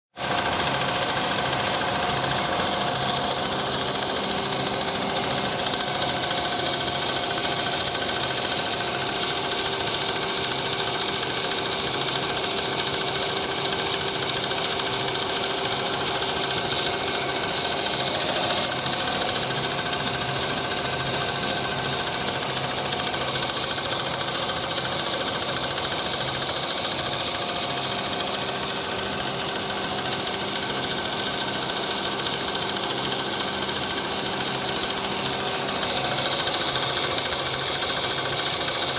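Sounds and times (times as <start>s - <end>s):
constant machine tones: 0.2s - 38.9s
machinery rattling: 0.2s - 38.9s.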